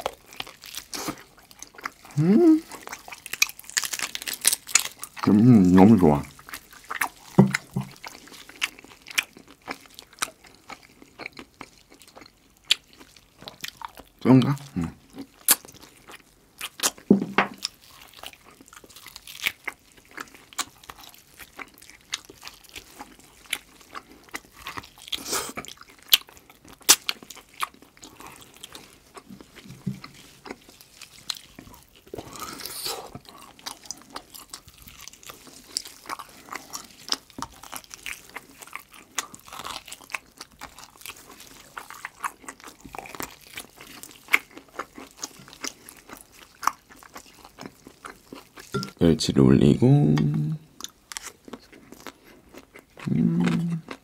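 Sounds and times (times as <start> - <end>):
person chewing and biting: 0.0 - 49.0, 50.2 - 54.0.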